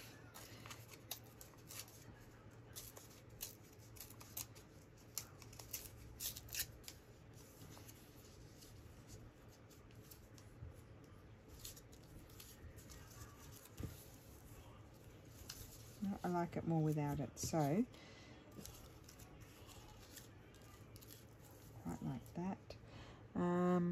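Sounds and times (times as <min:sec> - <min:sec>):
paper rustling and crinkling: 0:00.0 - 0:17.9, 0:18.5 - 0:22.4.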